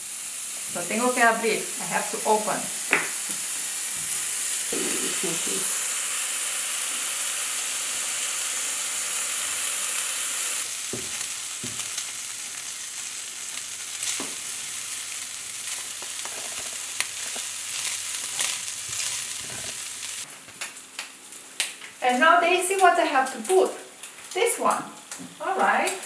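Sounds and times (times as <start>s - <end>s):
bacon sizzling in a frying pan: 0.0s - 26.0s.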